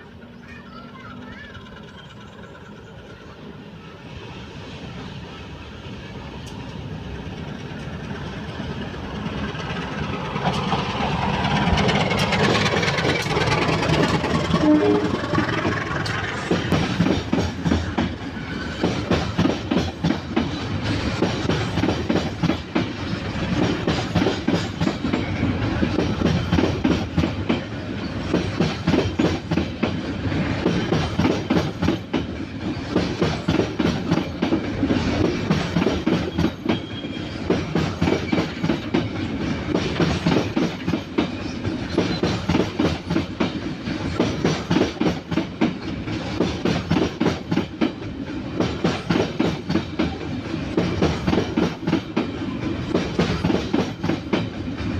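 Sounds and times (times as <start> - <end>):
train wheels clattering over rail joints: 6.4 - 54.9.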